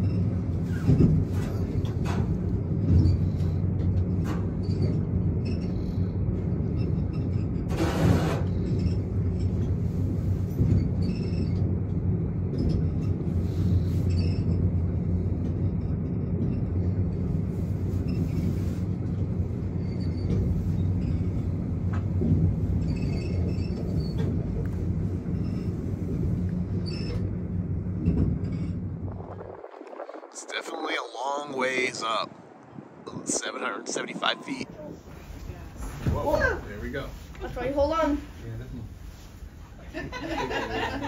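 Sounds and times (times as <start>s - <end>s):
elevator car rumbling and humming: 0.0s - 41.0s.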